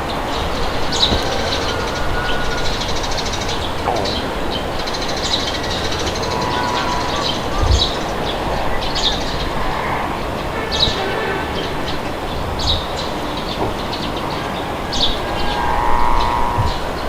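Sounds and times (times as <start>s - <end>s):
birds chirping: 0.0s - 17.0s
steady wind: 0.0s - 17.0s.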